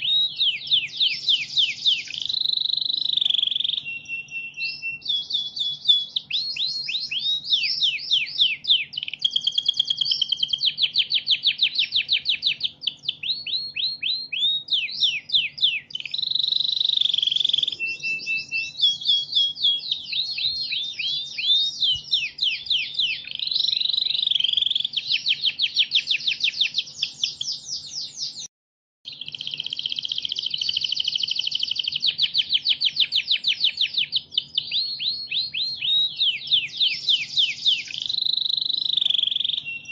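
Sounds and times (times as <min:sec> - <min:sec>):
canary singing trills: 0:00.0 - 0:28.5, 0:29.1 - 0:39.9.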